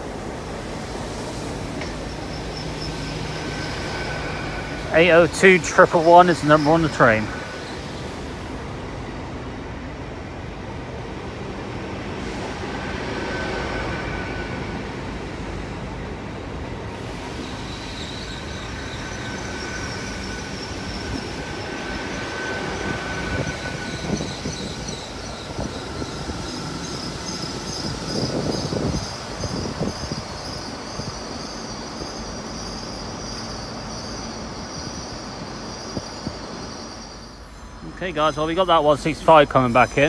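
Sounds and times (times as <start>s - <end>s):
train running rumble: 0.0s - 40.0s
high-pitched wheel squeal: 1.3s - 8.5s, 12.2s - 15.2s, 17.0s - 40.0s.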